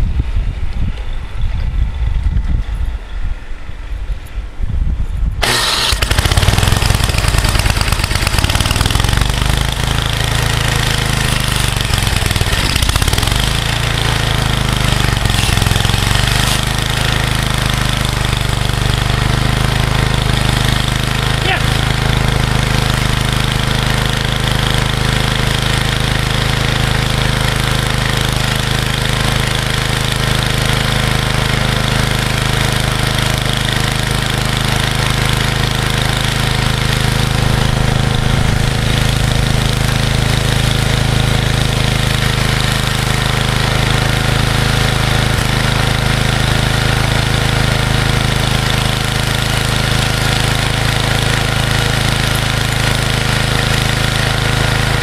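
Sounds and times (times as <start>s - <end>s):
snowblower engine running: 5.4s - 55.0s.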